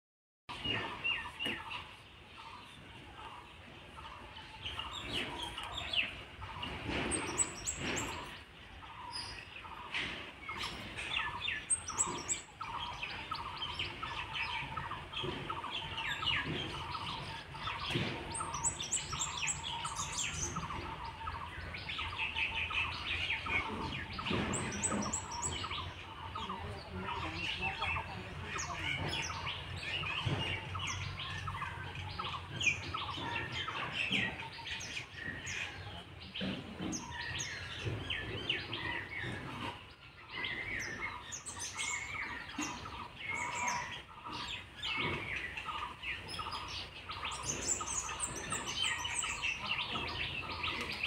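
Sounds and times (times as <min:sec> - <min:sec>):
birds chirping: 0:00.5 - 0:51.0.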